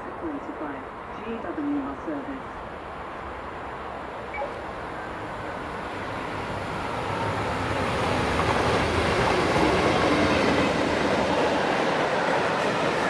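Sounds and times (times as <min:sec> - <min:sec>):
diesel locomotive engine: 0:00.0 - 0:13.0.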